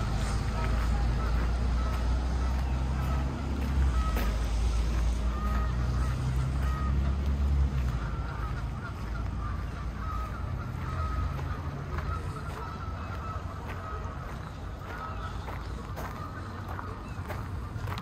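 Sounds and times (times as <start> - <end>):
city traffic rumble: 0.0 - 18.0
geese honking: 0.0 - 18.0.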